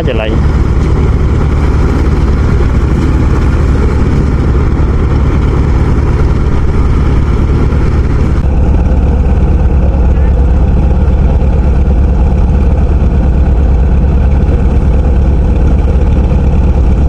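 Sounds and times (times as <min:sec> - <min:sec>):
heavy farm machine engine: 0:00.0 - 0:17.0.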